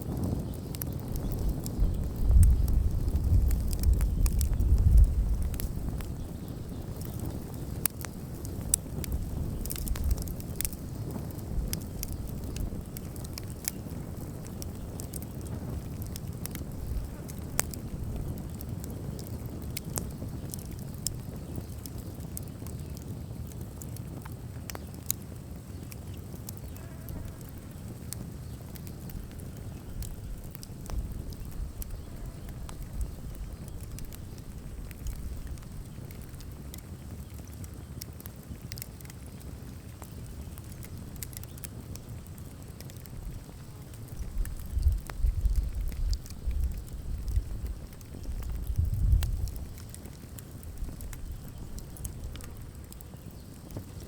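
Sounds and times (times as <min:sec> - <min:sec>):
bonfire crackling and popping: 0:00.0 - 0:54.0
wind rumble on microphone: 0:00.0 - 0:54.0.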